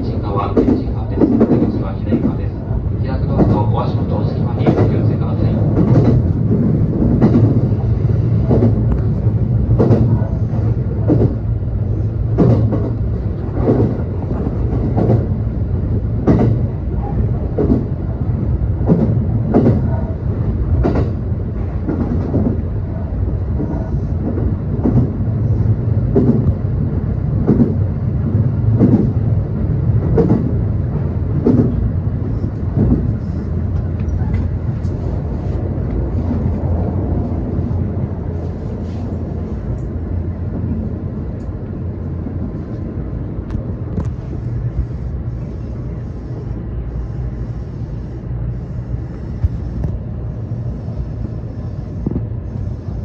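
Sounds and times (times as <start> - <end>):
train running with wheel clacks: 0.0 - 53.0.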